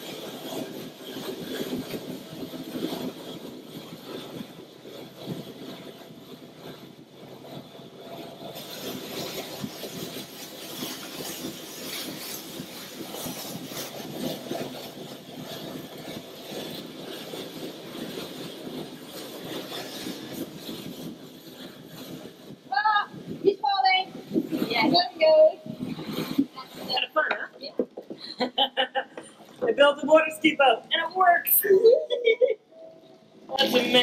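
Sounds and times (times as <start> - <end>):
rushing wind and water: 0.0 - 31.8.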